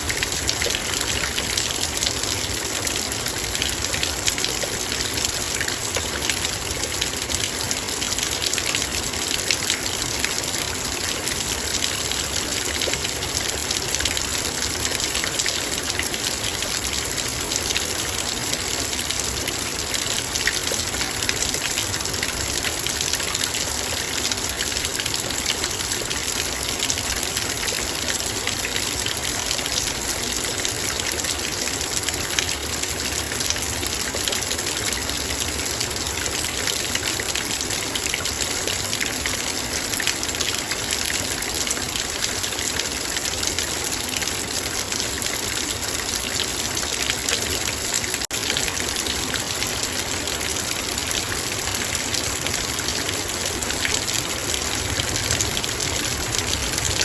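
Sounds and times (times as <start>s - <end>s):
rain on a metal bowl: 0.0s - 57.0s.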